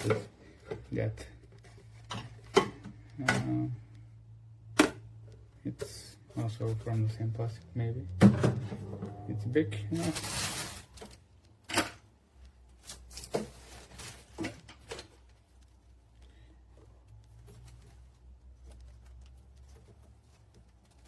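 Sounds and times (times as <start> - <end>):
faint rustling and handling: 0.0 - 21.0
low steady hum: 0.0 - 21.0.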